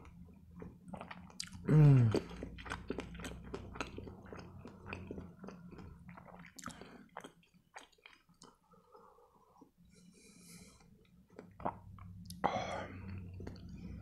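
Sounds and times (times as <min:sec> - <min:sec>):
man chewing food: 0:00.0 - 0:14.0.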